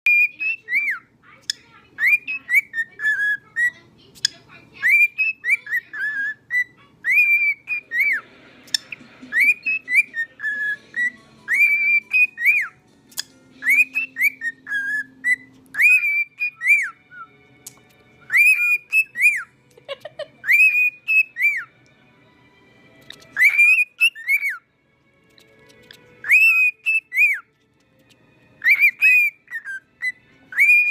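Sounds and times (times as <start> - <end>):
cockatiel whistling a tune: 0.0 - 1.1, 2.0 - 3.8, 4.8 - 19.5, 20.4 - 21.8, 23.0 - 24.7, 25.3 - 30.9.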